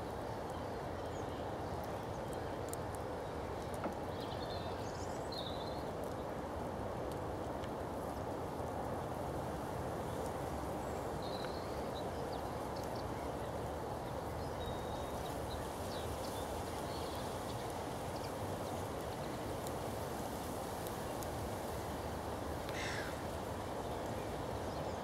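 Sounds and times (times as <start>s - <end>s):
outdoor background noise: 0.0s - 25.0s.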